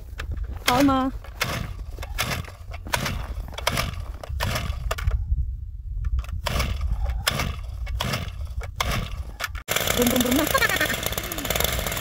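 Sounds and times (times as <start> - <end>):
recoil starter cord rasping: 0.2 - 5.2, 6.1 - 12.0.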